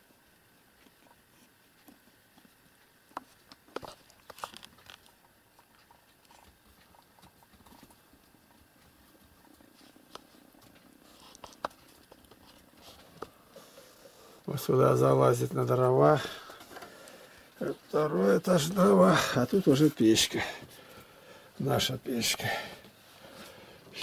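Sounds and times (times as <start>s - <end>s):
faint rustling of fur and bedding: 0.0s - 24.0s.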